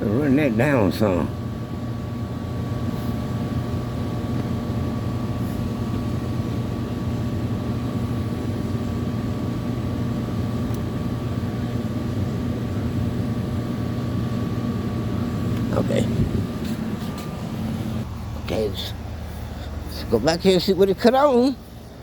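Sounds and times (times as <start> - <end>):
air conditioning hum: 0.0 - 22.0.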